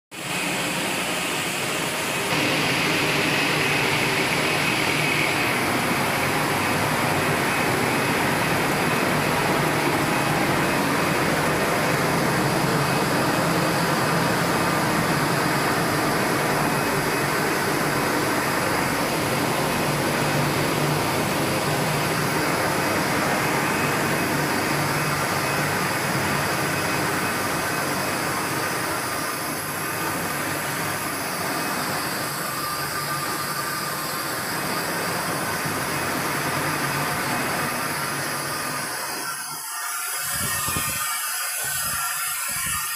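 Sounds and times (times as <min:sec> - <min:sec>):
factory machinery running: 0:00.2 - 0:42.9.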